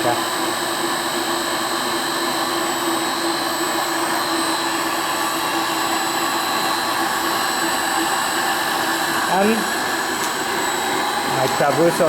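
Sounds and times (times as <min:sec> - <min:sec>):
lathe humming with high whine: 0:00.0 - 0:12.0.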